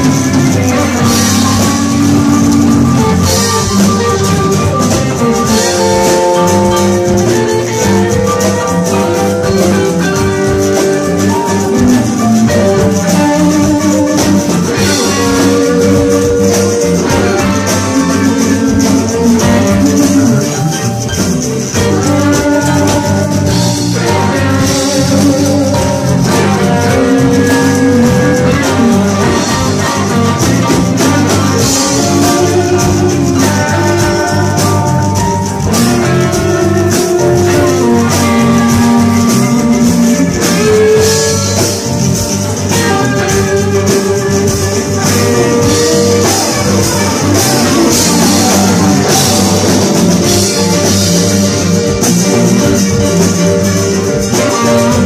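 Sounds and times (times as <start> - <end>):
electric guitar: 0.0 - 55.0
live rock band playing: 0.0 - 55.0.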